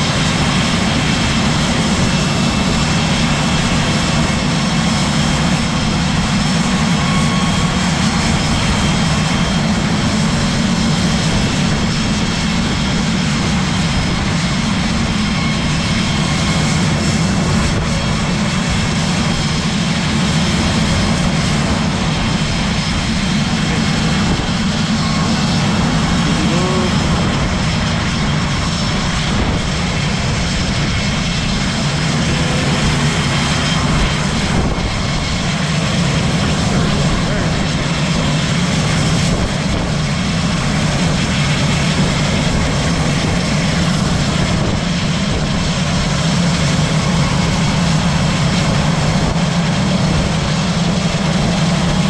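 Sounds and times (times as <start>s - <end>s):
loud mechanical drone: 0.0s - 52.0s.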